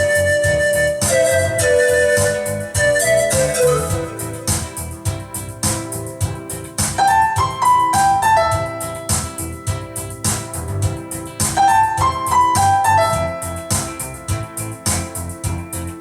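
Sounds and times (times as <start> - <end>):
keyboard music with beat: 0.0 - 16.0.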